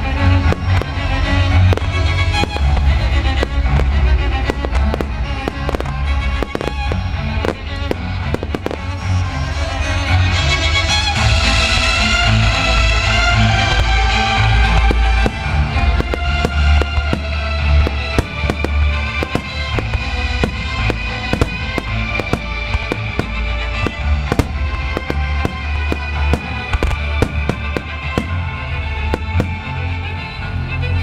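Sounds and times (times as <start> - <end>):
fireworks bursting and crackling: 0.0 - 30.6
loud music: 0.0 - 31.0.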